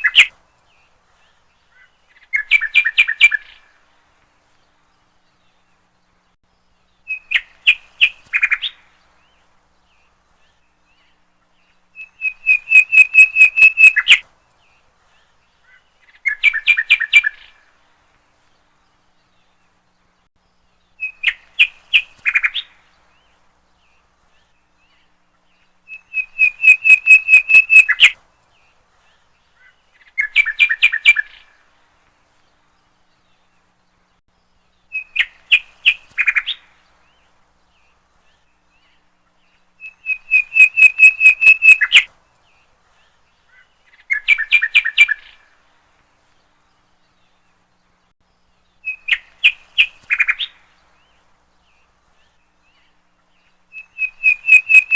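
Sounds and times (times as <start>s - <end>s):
songbird chirping: 0.0s - 54.9s.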